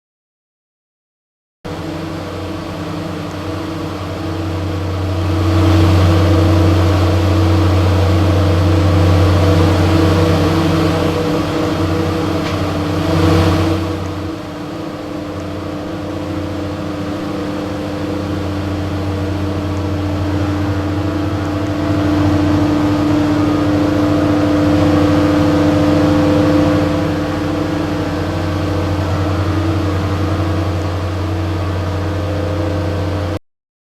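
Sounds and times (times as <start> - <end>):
air conditioner running: 1.7 - 33.4.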